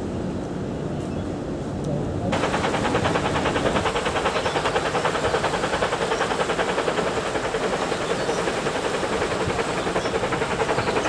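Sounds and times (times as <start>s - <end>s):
steam train running: 1.4s - 11.0s.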